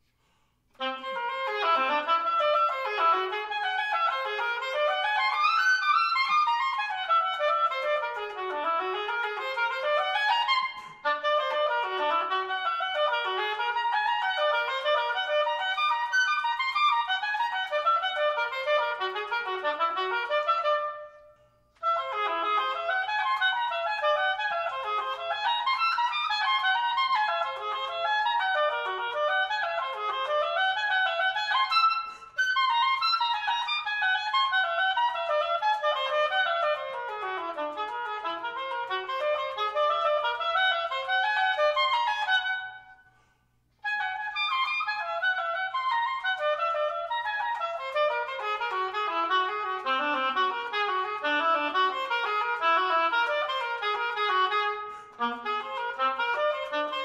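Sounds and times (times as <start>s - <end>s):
oboe playing fast runs: 0.7s - 57.0s.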